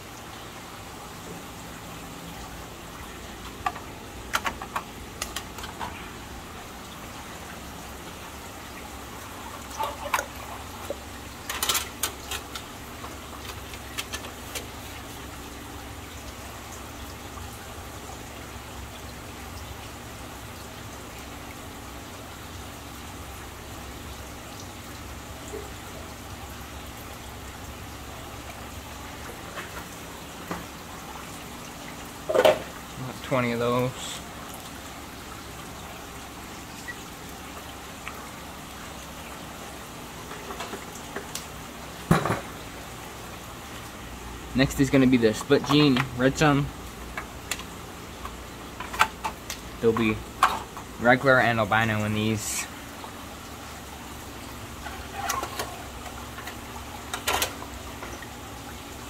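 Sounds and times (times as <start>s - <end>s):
aquarium water trickling: 0.0s - 59.0s.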